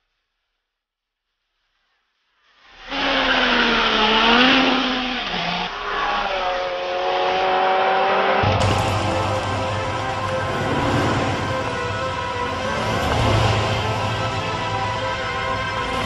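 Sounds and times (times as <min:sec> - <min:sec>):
racing car engine revving: 0:02.9 - 0:16.0.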